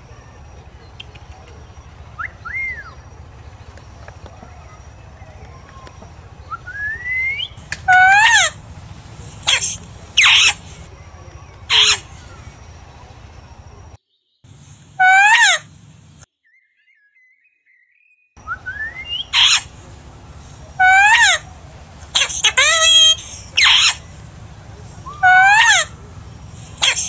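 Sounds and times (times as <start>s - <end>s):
parakeets calling: 0.0s - 16.3s, 18.4s - 27.0s.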